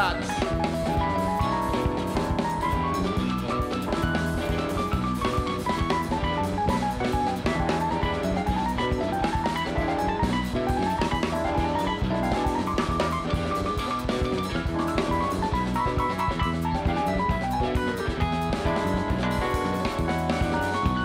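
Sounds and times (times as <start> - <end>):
drum kit: 0.0 - 21.0
electric bass: 0.0 - 21.0
electric guitar: 0.0 - 21.0
keyboard solo runs: 0.0 - 21.0.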